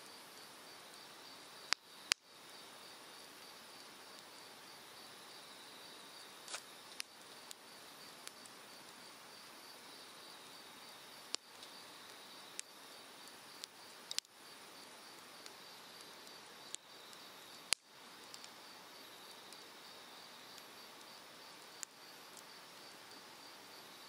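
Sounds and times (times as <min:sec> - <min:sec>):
firewood crackling and popping: 0:00.0 - 0:24.0
insect chirping: 0:00.0 - 0:24.0.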